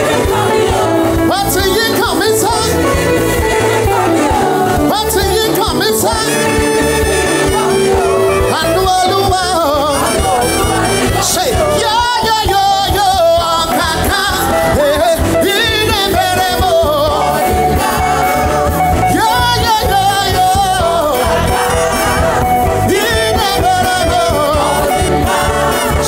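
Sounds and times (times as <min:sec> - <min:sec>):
band playing steady beat: 0:00.0 - 0:26.0
person singing with vibrato: 0:00.0 - 0:26.0.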